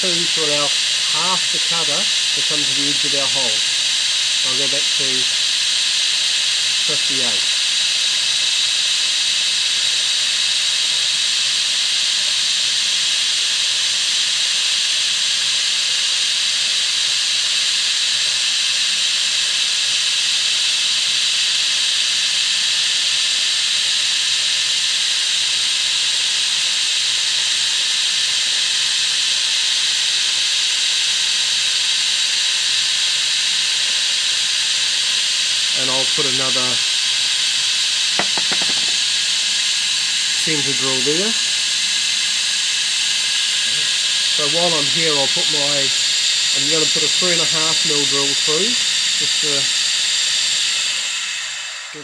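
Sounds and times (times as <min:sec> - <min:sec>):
milling machine hissing: 0:00.0 - 0:52.0.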